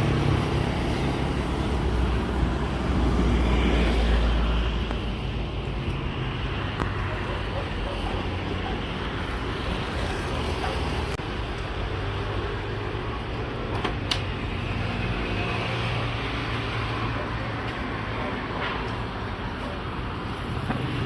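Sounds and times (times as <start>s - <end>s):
roadside traffic noise: 0.0s - 21.0s.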